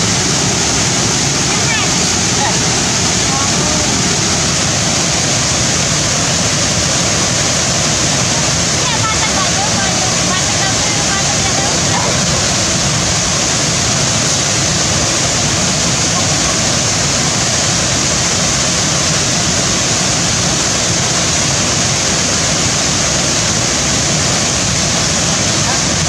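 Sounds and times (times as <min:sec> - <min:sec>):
waterfall rushing into pool: 0:00.0 - 0:26.0.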